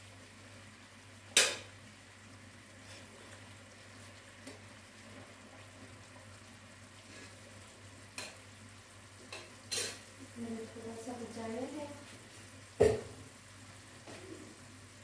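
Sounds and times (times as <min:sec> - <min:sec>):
syrup bubbling in a pan: 0:00.0 - 0:15.0.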